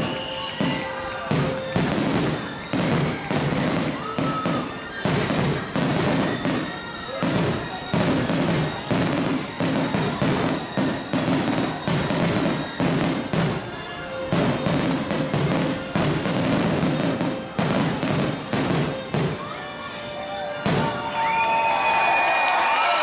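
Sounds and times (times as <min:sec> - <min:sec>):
fireworks bangs: 0:00.0 - 0:19.6, 0:20.5 - 0:22.8.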